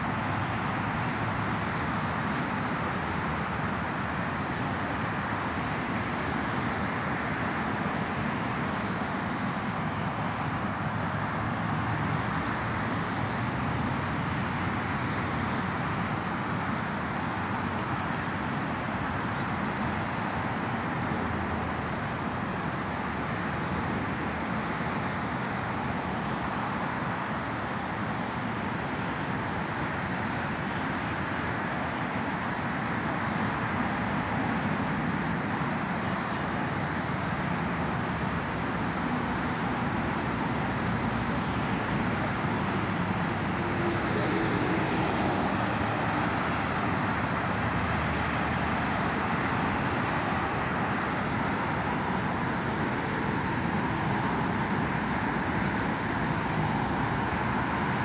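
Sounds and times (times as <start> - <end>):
road traffic hum: 0.0 - 58.0.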